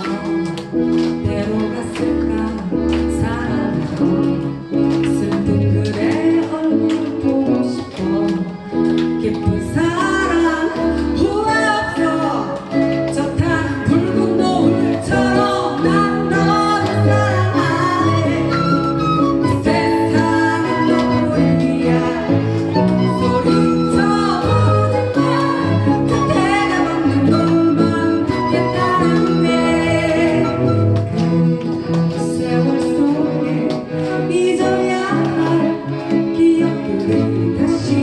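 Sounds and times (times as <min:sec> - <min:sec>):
person singing: 0:00.0 - 0:31.5, 0:32.1 - 0:38.0
guitar and instruments playing chords: 0:00.0 - 0:38.0.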